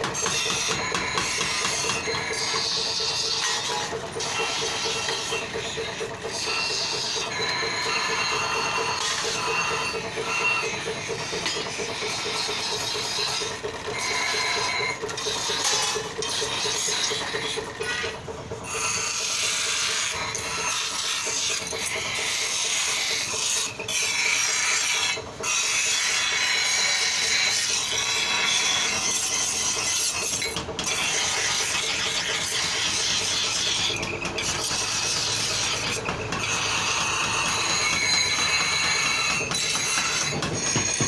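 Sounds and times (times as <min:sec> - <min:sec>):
grinding wheel rasping on steel: 0:00.0 - 0:41.0.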